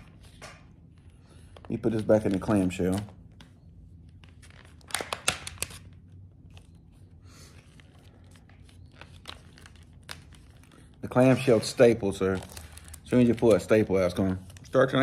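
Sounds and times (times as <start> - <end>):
plastic package crinkling: 1.5 - 15.0.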